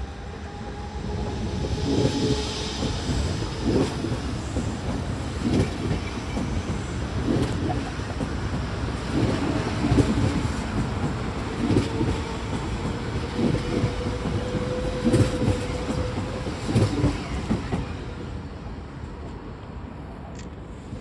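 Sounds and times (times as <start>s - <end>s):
train rumble: 0.0s - 21.0s
train wheels clickety-clack: 0.7s - 18.4s.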